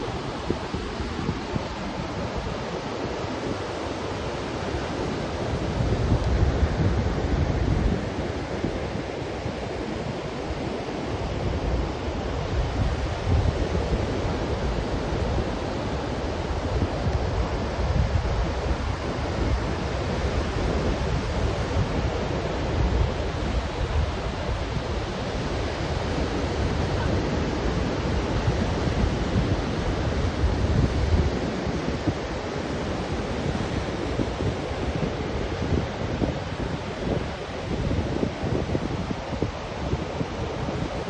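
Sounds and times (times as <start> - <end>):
surf washing onto beach: 0.0 - 41.0
wind buffeting microphone: 0.0 - 41.0.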